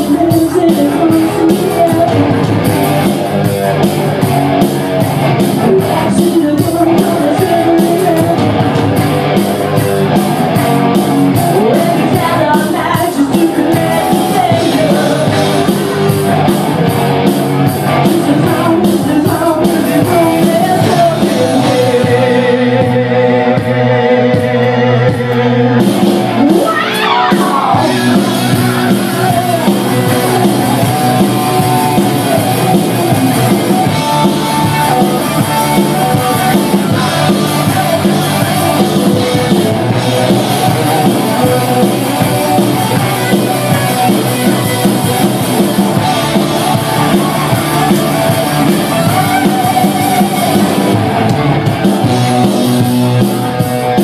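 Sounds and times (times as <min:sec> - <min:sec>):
person singing: 0:00.0 - 0:03.0, 0:05.4 - 0:08.8, 0:10.6 - 0:17.0, 0:17.8 - 0:52.9
electric guitar: 0:00.0 - 0:54.0
electronic drum kit: 0:00.0 - 0:54.0.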